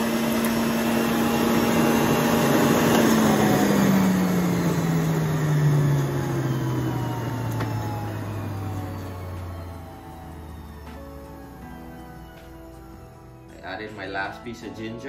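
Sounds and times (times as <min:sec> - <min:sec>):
juicer motor hum: 0:00.0 - 0:13.8
juicer shredding fruit: 0:00.0 - 0:13.8.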